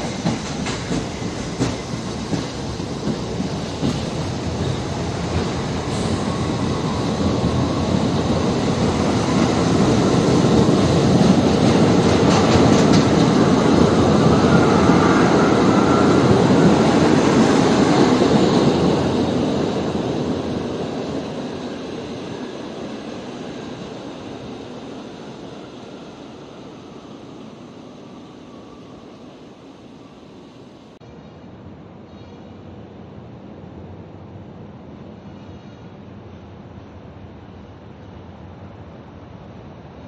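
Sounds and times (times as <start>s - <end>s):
subway train rumbling past: 0.0s - 40.0s.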